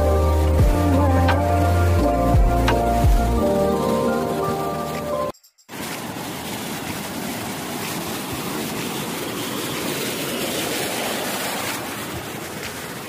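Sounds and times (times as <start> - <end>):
water rushing over a weir: 0.0 - 13.0.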